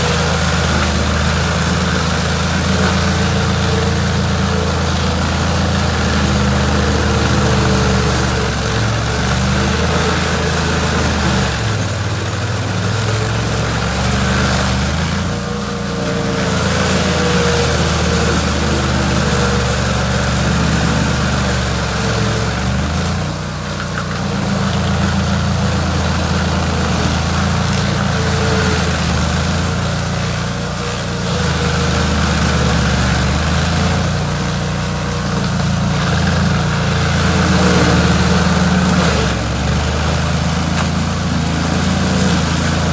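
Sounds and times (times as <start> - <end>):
chainsaw cutting a log: 0.0 - 42.9.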